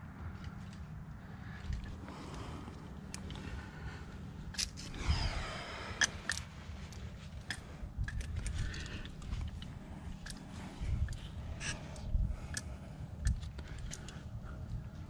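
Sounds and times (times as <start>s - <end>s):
climbing gear clicking and clinking: 0.2s - 15.0s.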